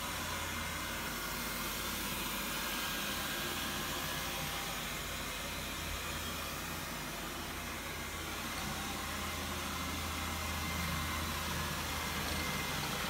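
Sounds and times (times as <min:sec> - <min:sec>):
robot vacuum cleaner running: 0:00.0 - 0:13.0.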